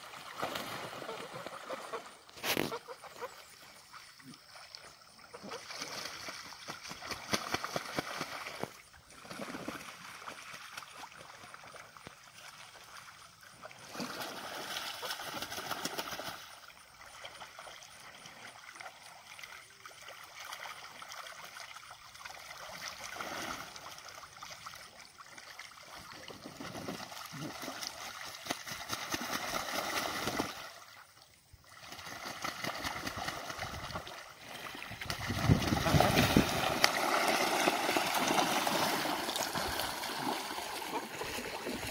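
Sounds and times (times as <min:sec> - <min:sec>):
geese and ducks splashing water: 0:00.0 - 0:41.9.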